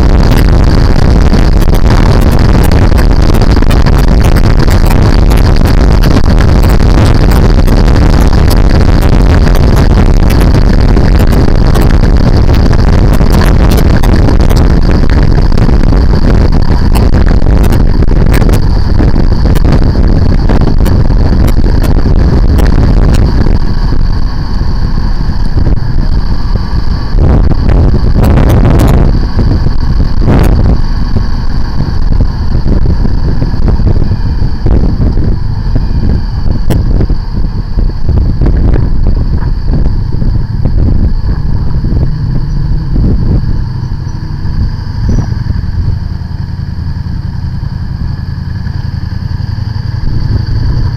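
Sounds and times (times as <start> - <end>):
motorcycle engine: 0.0 - 50.9
wind rush on microphone: 0.0 - 50.9.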